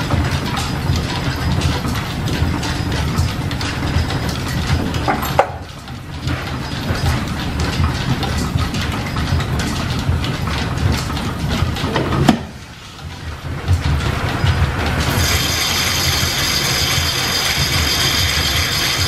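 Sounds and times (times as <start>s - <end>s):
machine tools clattering: 0.0s - 19.0s.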